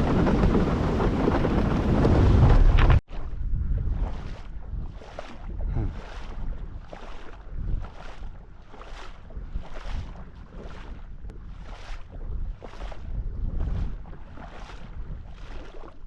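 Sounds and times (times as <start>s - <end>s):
wind buffeting microphone: 0.0s - 16.0s
shallow water sloshing: 1.4s - 16.0s.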